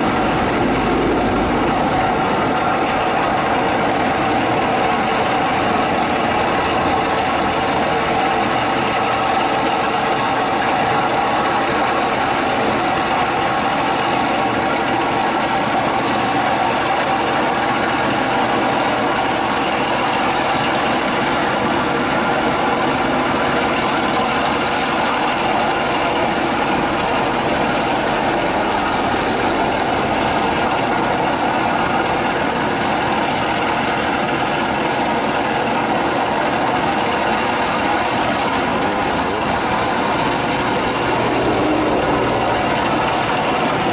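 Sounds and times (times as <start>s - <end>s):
digger churning mud and water: 0.0s - 43.9s
tractor engine running: 0.0s - 43.9s.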